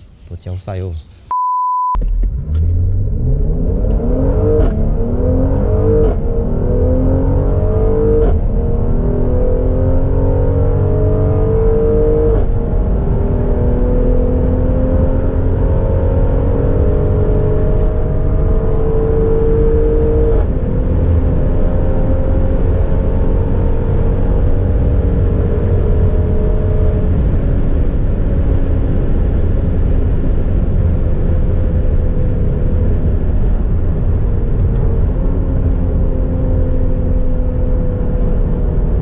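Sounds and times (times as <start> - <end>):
car engine accelerating: 2.0 - 39.0.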